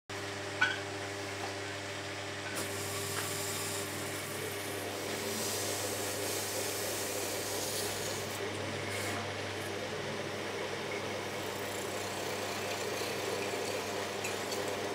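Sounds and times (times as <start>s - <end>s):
potter's wheel humming: 0.1s - 14.9s.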